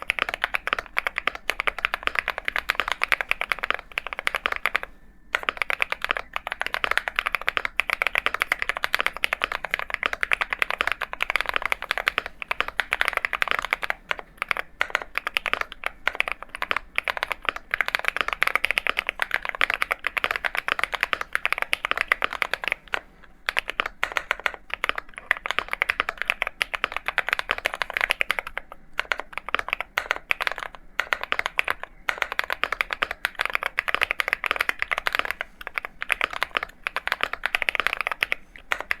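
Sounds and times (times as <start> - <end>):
fast typing on mechanical keyboard: 0.0 - 39.0.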